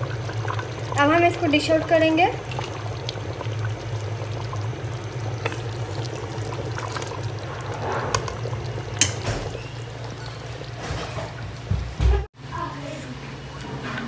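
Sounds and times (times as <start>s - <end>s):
curry bubbling in a pot: 0.0s - 11.6s.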